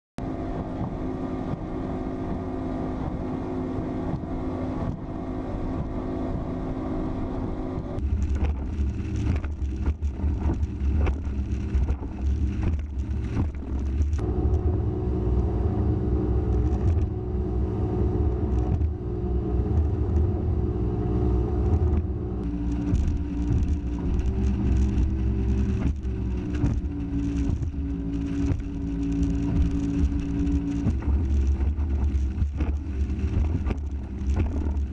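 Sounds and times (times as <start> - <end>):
hull pounding through waves: 0.2 - 34.9
outboard motor running: 0.2 - 34.9.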